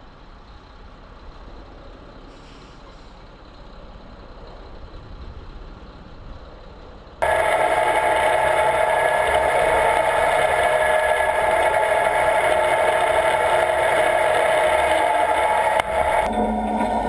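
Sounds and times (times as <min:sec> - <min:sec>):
bulldozer diesel engine running: 0:02.9 - 0:17.0.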